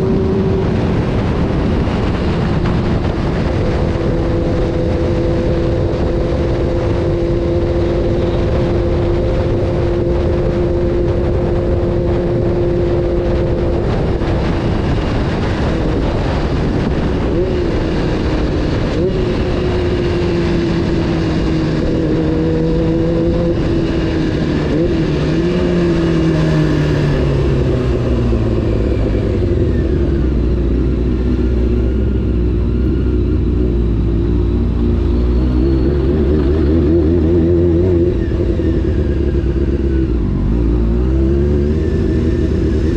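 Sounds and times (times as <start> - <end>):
motorcycle engine revving: 0.0 - 42.9
rushing riding noise: 0.0 - 42.9.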